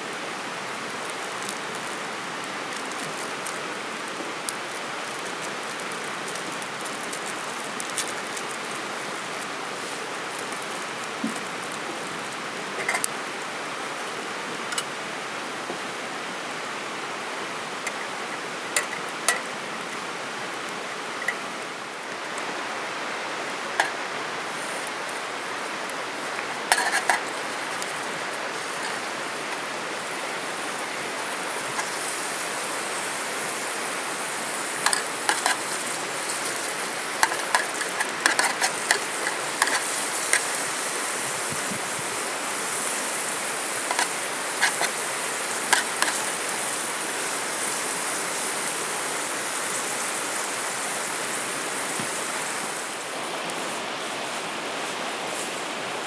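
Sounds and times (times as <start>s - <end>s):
flowing stream water: 0.0s - 56.0s.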